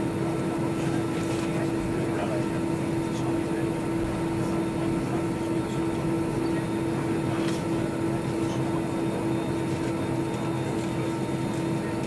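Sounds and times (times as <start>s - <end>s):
jet engine cabin noise: 0.0s - 12.0s.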